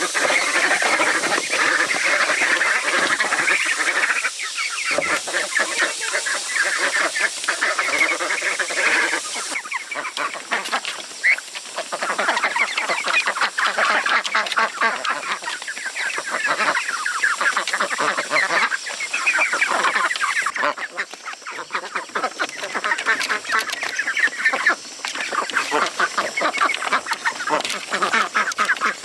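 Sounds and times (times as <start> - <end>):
poultry flock clucking: 0.0 - 29.0.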